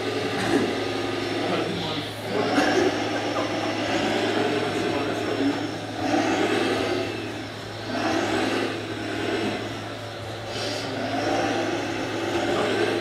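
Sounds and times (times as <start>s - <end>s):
model trucks machine noise: 0.0s - 13.0s.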